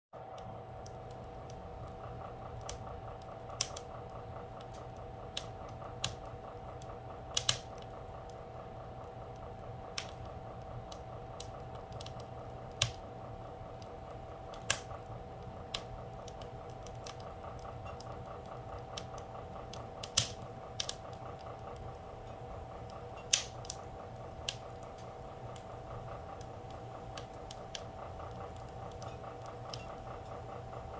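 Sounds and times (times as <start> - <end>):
steady hum: 0.2 - 30.9
fire crackling and popping: 0.4 - 30.9.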